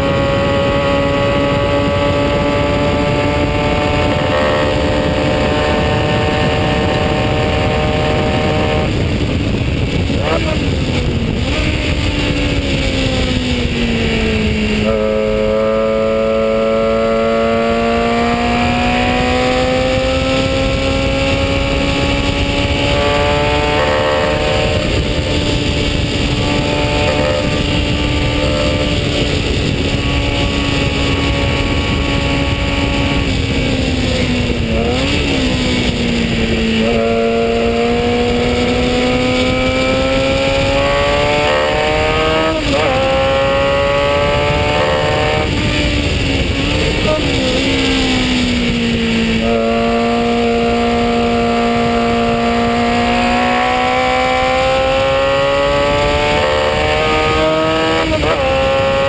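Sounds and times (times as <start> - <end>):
racing car engine at high revs: 0.0 - 59.0
wind rush: 0.0 - 59.0.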